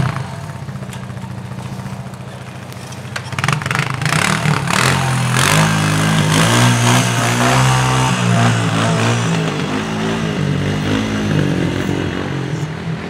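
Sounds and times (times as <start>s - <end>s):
atv engine revving: 0.0s - 13.0s
pickup truck engine: 0.0s - 13.0s.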